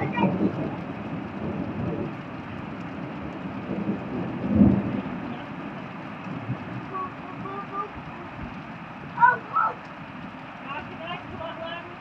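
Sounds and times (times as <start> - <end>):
heavy rain pouring: 0.0 - 12.0
low rumbling surges: 0.0 - 12.0.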